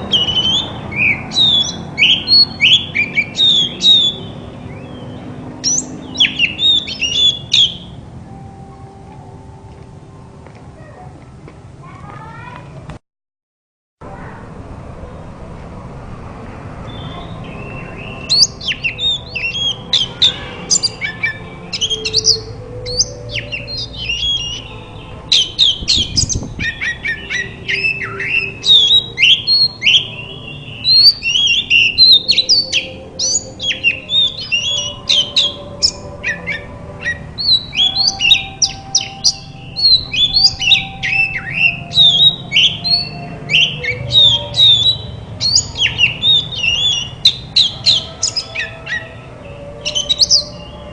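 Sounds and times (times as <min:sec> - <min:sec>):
magpie-robin singing: 0:00.0 - 0:08.9, 0:16.8 - 0:50.9.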